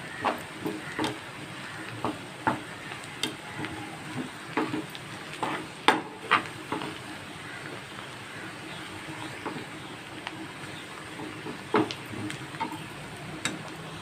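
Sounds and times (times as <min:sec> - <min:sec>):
vegetable slices sizzling in oil: 0:00.0 - 0:14.0.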